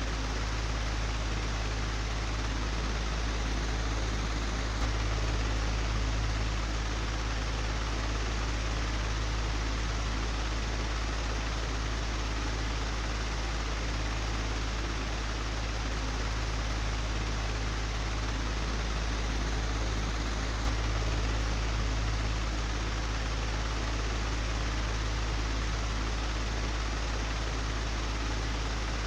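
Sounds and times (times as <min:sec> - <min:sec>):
electric fan running: 0:00.0 - 0:29.0.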